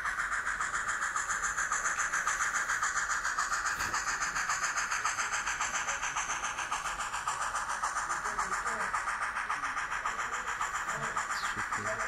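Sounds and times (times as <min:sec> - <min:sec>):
model steam locomotive chuffing: 0:00.0 - 0:12.0.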